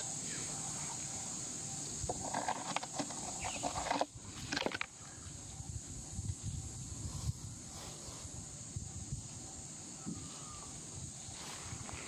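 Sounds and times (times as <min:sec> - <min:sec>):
high-pitched background hiss: 0:00.0 - 0:12.0.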